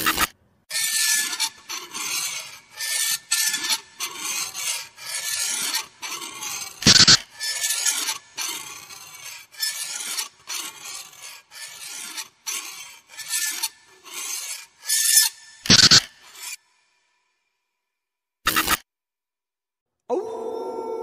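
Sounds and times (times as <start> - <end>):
rasping scraping strokes: 0.0 - 17.1.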